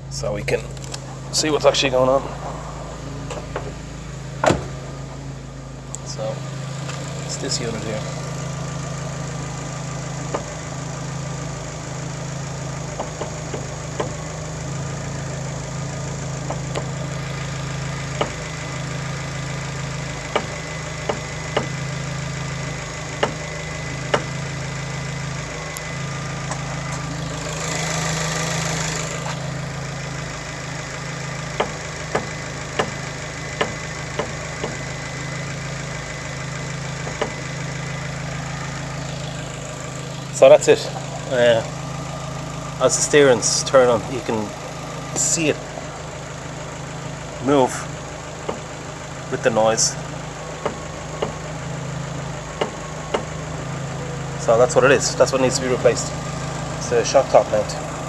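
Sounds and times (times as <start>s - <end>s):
car engine idling: 0.0s - 58.0s
suspension knocking: 0.0s - 58.0s.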